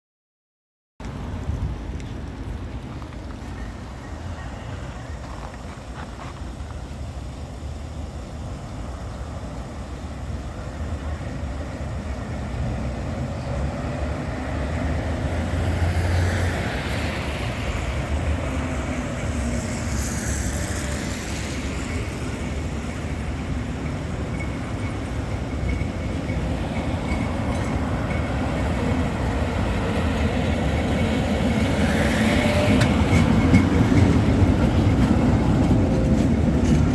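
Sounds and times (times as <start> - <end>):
tram interior rumble: 1.0 - 36.9.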